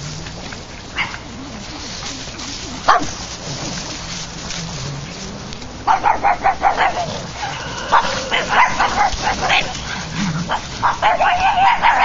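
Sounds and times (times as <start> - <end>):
dogs yapping: 0.0 - 1.9, 2.8 - 4.5, 5.8 - 12.0.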